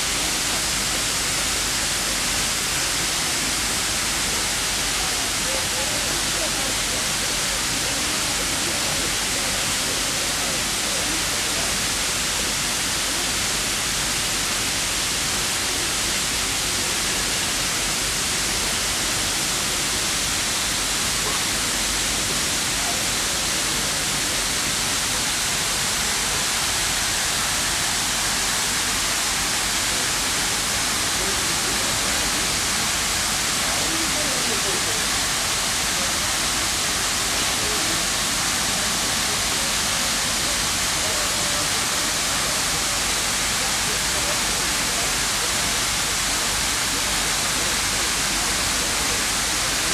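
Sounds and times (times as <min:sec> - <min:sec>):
fountain water hissing: 0:00.0 - 0:49.9.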